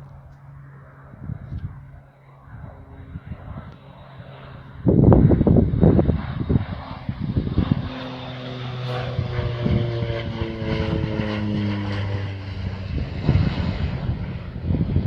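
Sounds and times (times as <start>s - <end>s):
propeller airplane flying past: 0.0s - 15.0s
wind buffeting microphone: 0.0s - 15.0s.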